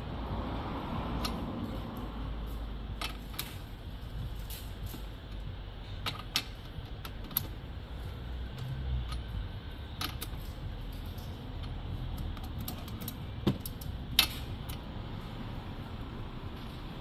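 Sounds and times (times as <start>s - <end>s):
parts clicking and rattling: 1.1s - 15.7s.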